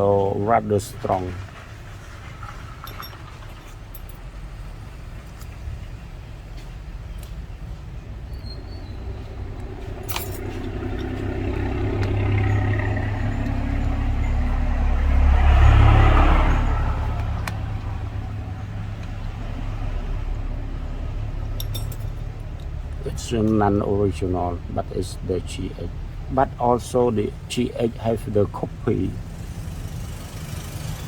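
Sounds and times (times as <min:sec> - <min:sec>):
vehicle engine rumble passing: 0:00.0 - 0:31.0.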